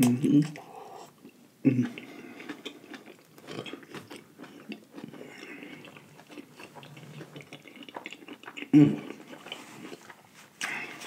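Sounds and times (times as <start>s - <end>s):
close chewing with wet mouth sounds: 0.0s - 11.0s.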